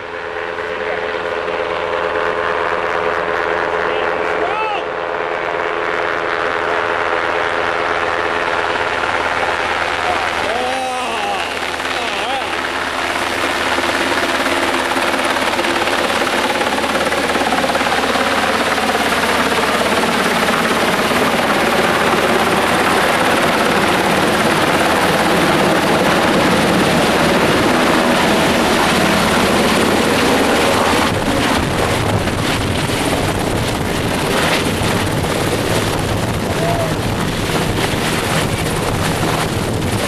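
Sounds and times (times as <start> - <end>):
helicopter rotors and engines: 0.0 - 40.0.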